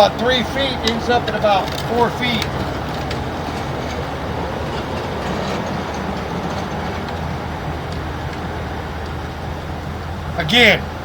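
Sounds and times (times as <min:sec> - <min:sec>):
constant hum: 0:00.0 - 0:11.0
low mechanical rumble: 0:00.0 - 0:11.0.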